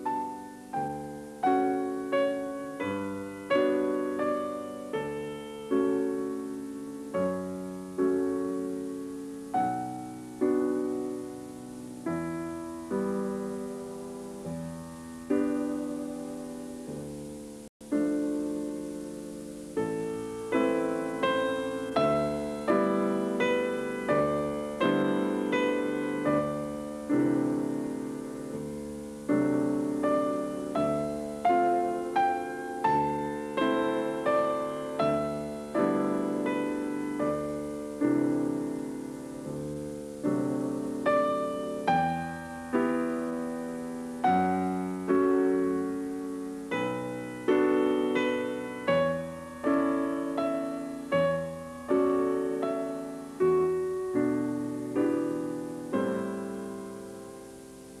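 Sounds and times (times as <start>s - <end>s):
slow piano music: 0.0s - 58.0s.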